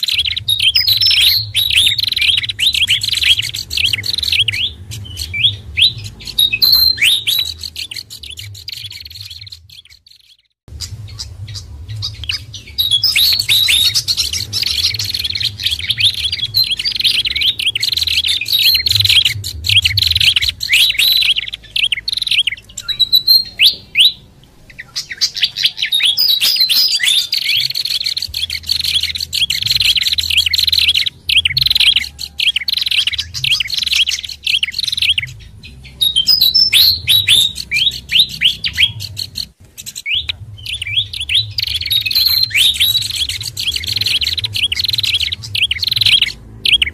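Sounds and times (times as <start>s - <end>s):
small songbirds chirping: 0.0s - 46.9s.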